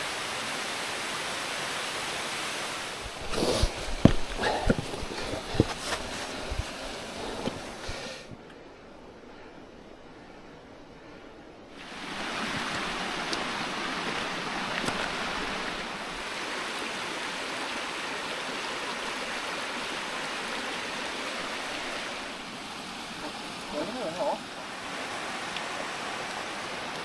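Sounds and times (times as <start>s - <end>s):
stream rushing over rocks: 0.0s - 8.4s, 11.7s - 27.0s.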